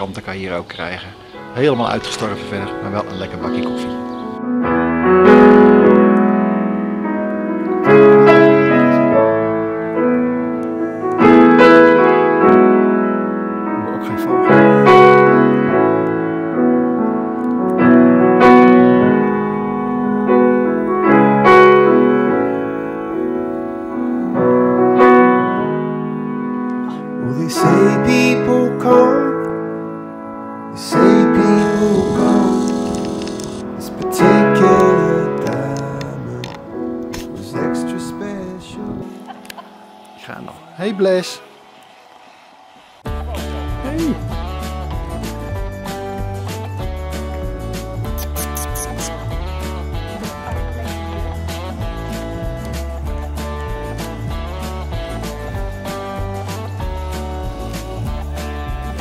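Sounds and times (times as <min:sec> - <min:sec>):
piano playing slow chords: 0:01.2 - 0:59.0.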